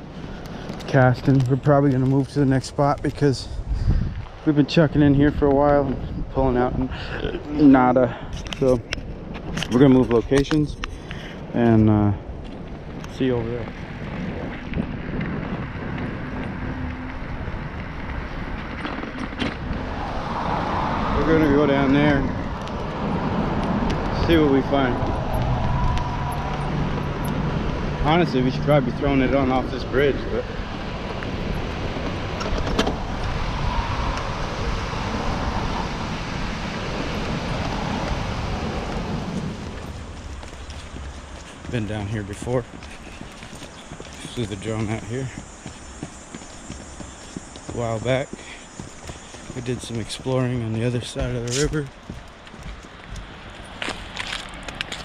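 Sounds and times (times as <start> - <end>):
cars going by: 0.0 - 55.0
wind rushing over microphone: 0.0 - 55.0.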